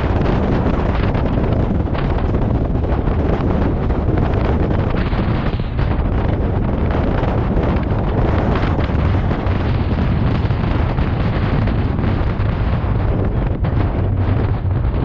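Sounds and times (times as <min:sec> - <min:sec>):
engine rumble: 0:00.0 - 0:15.0
wind buffeting microphone: 0:00.0 - 0:15.0.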